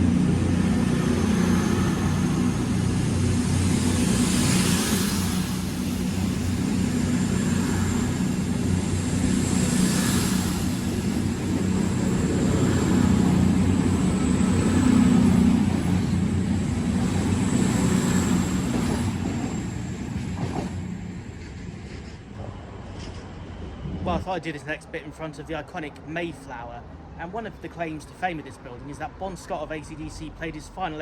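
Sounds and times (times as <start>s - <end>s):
train low rumble: 0.0s - 25.2s.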